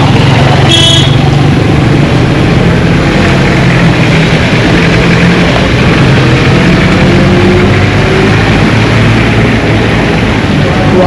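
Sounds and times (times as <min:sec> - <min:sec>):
engine running steadily: 0:00.0 - 0:11.0
road traffic hum: 0:00.0 - 0:11.0.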